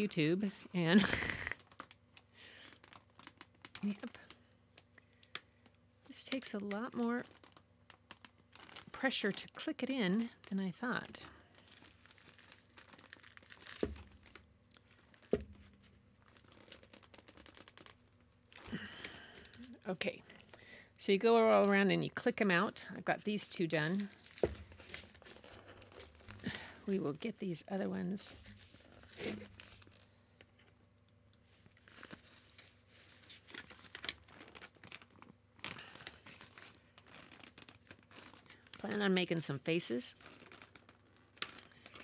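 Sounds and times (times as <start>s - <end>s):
fabric rustling and crinkling: 1.6s - 4.9s, 5.6s - 20.6s, 23.3s - 27.3s, 28.0s - 30.8s, 31.4s - 42.0s.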